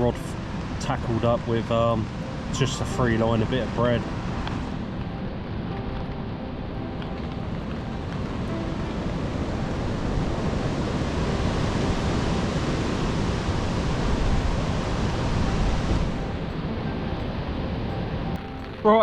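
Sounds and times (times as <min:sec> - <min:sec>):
wind gusting over microphone: 0:00.0 - 0:19.0.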